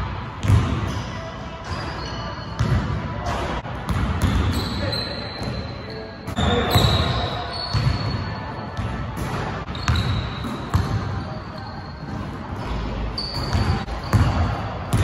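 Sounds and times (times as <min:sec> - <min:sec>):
sneakers squeaking on floor: 0:00.4 - 0:03.0, 0:03.9 - 0:15.0.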